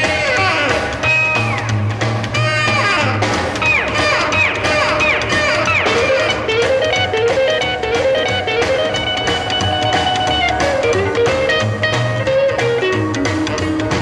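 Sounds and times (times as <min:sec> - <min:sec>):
bass: 0:00.0 - 0:14.0
drums: 0:00.0 - 0:14.0
electric guitar lead: 0:00.0 - 0:14.0.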